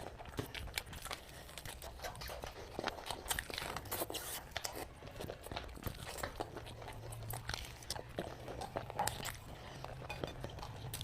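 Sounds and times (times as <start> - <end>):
chewing and biting food: 0.0 - 11.0.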